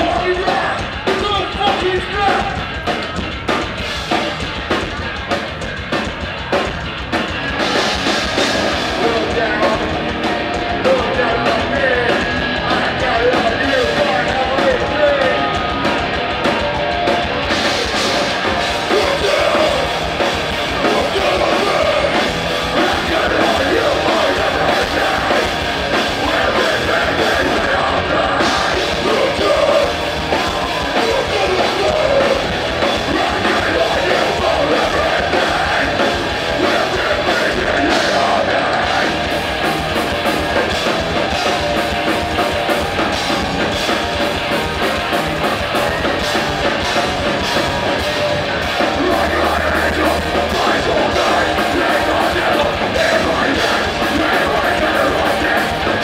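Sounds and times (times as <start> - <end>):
drums: 0.0 - 56.0
punk band playing loud: 0.0 - 56.0.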